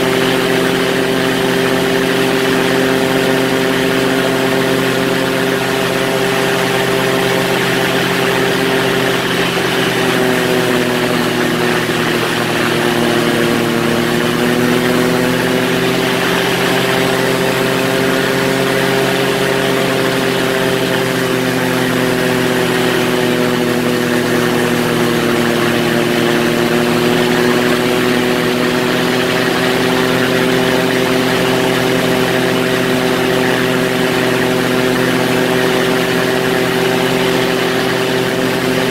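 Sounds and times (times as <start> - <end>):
ultralight engine and propeller droning: 0.0 - 38.9.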